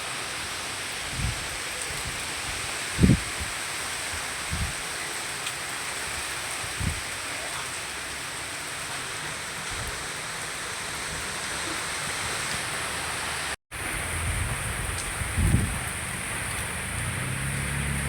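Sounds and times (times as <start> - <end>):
heavy rain and wind: 0.0 - 18.0.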